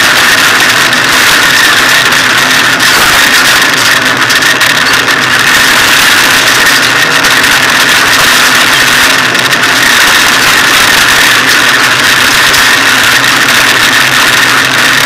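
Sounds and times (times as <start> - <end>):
rally car engine and road noise: 0.0 - 15.0.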